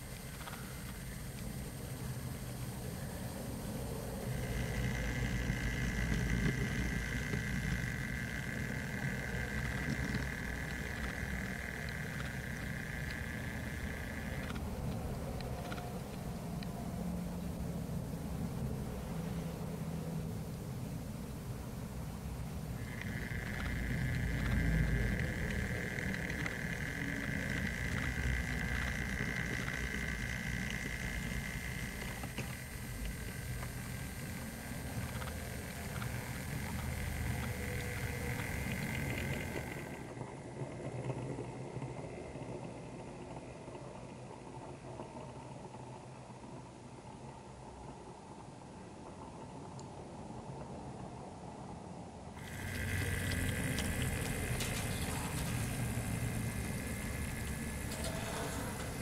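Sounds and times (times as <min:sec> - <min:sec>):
high-pitched whine: 0:00.0 - 0:43.6, 0:52.4 - 0:59.0
model train rumbling: 0:00.0 - 0:45.7, 0:52.4 - 0:59.0.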